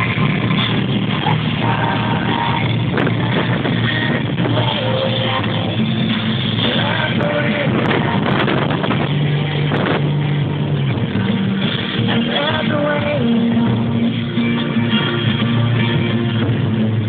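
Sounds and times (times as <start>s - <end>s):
rock music with loud guitar: 0.0s - 17.0s.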